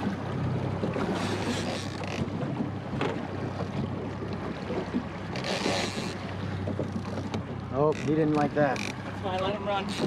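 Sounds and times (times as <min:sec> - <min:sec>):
outboard motor running: 0:00.0 - 0:10.0
water around hull: 0:00.0 - 0:10.0.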